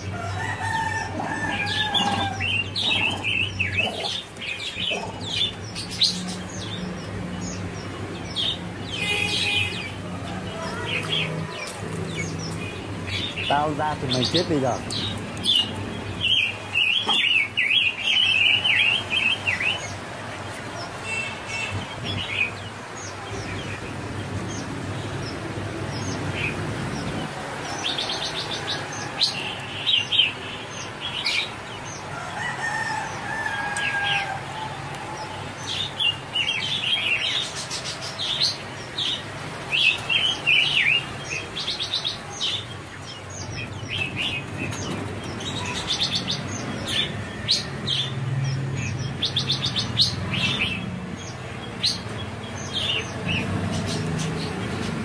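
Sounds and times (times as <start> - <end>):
outdoor background noise: 0.0 - 55.0
small birds chirping: 0.0 - 55.0.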